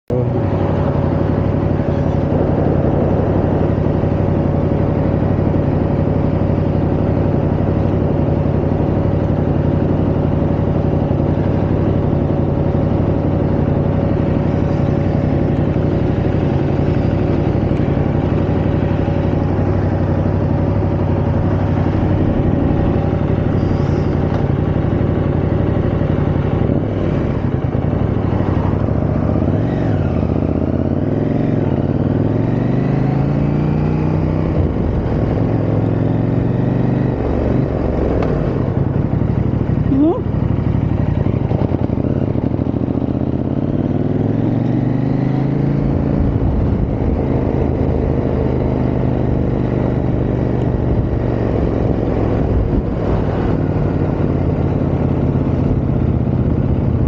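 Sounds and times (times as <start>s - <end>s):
motorcycle engine idling: 0.1s - 57.0s
motorcycle engine revving: 0.1s - 57.0s.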